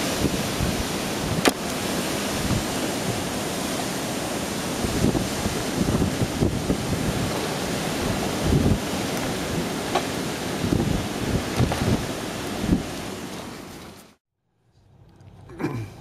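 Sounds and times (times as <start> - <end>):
wind buffeting microphone: 0.0 - 13.4
wind gusting through trees: 0.0 - 14.2.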